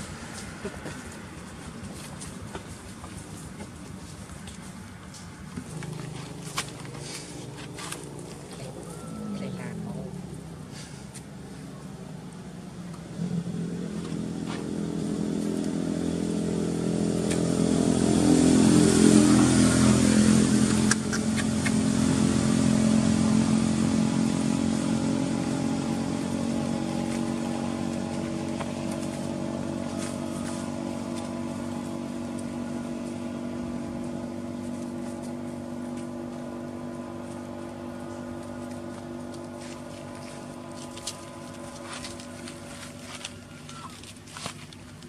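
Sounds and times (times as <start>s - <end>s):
passing vehicle engine: 0.0s - 44.6s.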